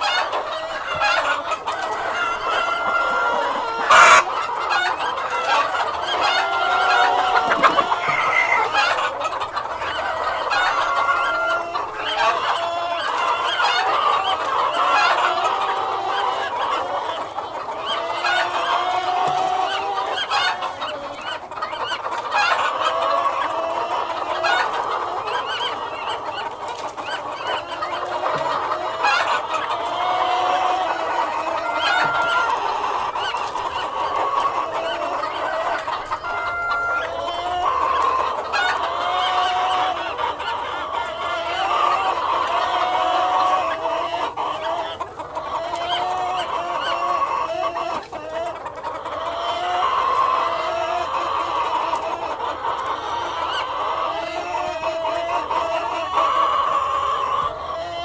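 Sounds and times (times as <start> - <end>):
hens clucking: 0.0 - 58.0.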